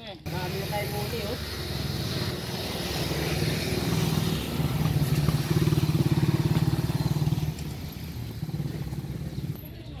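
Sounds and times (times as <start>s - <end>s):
small engine running: 0.3s - 9.8s.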